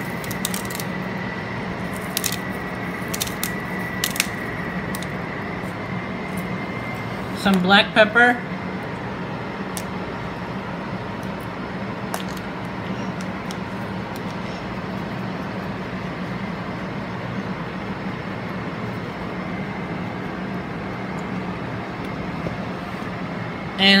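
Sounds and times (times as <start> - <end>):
air conditioner hum and hiss: 0.0 - 24.0.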